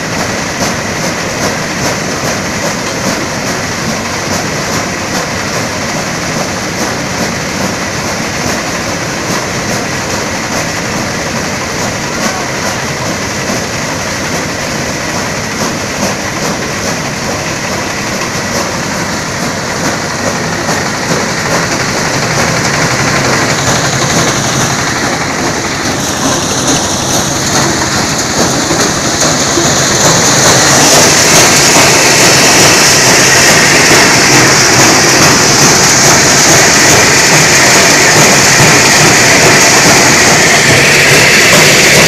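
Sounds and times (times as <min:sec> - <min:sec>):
diesel engine drone: 0:00.0 - 0:42.0
corn cobs clattering in sheller: 0:00.1 - 0:42.0.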